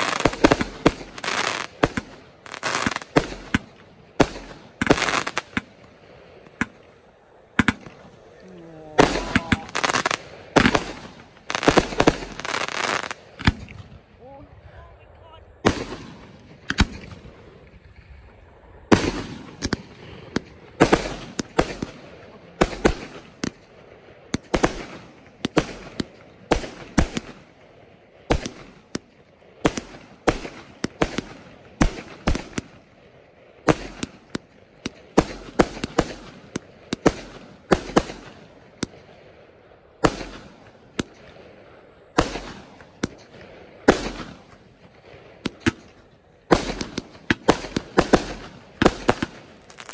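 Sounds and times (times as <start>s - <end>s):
fireworks bangs: 0.0s - 14.6s, 15.6s - 49.9s.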